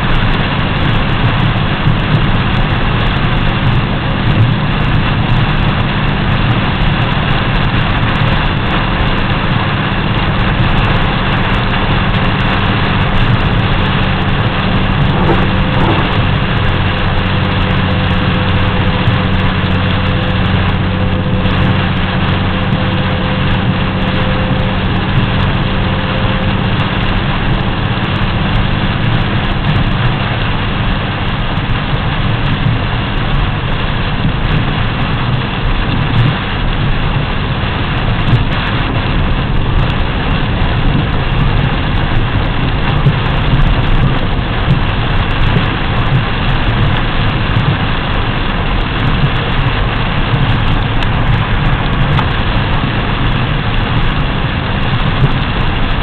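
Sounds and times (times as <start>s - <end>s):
engine hum: 0.0s - 56.0s
rain on windshield: 0.0s - 56.0s
tyres hissing on wet road: 0.0s - 56.0s.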